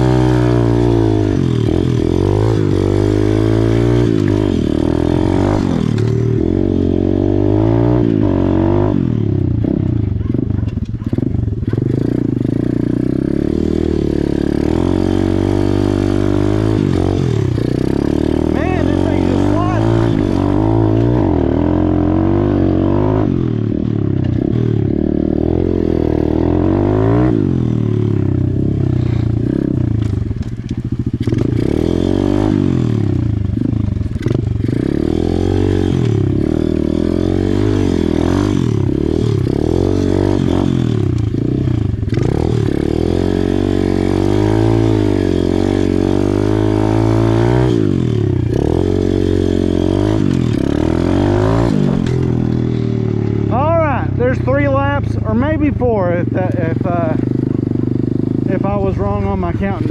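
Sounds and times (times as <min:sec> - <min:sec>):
pit bike engine revving: 0:00.0 - 0:59.9.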